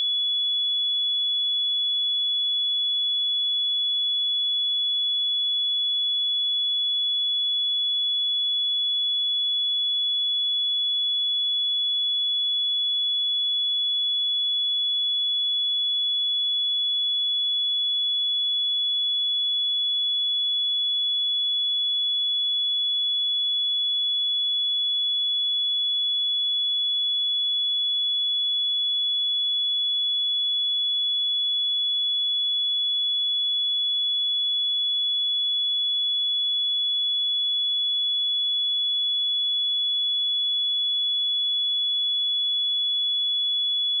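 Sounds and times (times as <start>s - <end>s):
sine wave test tone: 0.0s - 44.0s.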